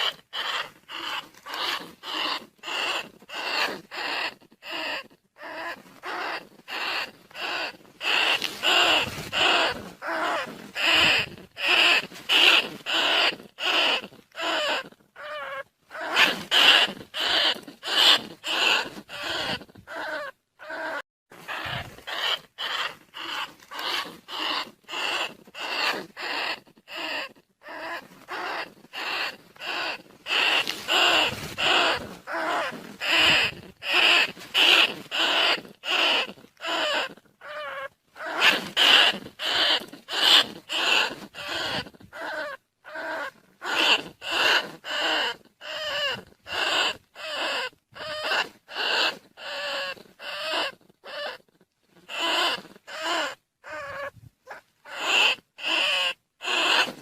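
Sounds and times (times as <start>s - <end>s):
rats squeaking: 0.0s - 57.0s.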